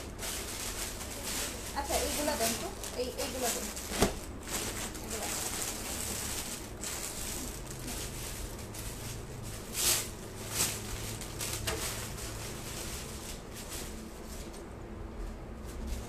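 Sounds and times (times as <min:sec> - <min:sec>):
cloth rustling and handling noise: 0:00.0 - 0:16.0
steady low hum: 0:00.0 - 0:16.0.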